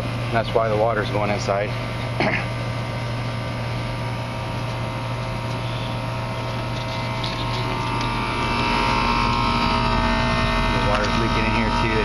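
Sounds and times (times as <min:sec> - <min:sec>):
air conditioning unit humming: 0:00.0 - 0:12.0.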